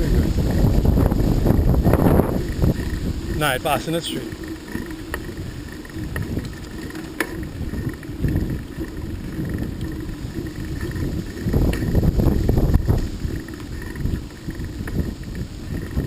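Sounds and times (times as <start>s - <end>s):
moving vehicle noise: 0.0s - 16.0s
wind buffeting microphone: 0.0s - 16.0s.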